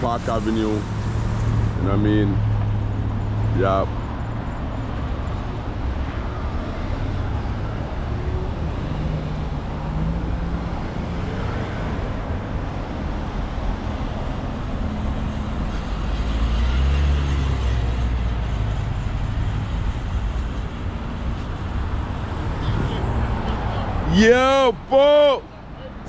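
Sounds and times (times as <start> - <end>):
vehicle engines rumbling: 0.0 - 26.0.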